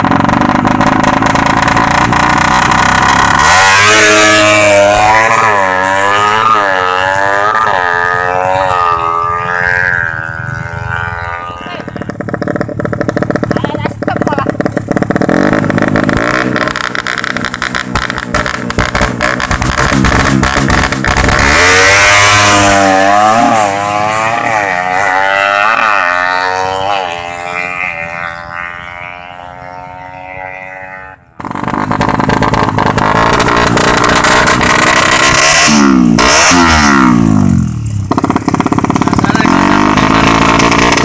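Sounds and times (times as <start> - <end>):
motorcycle accelerating through gears: 0.0 - 41.0
motorcycle engine revving: 0.0 - 41.0.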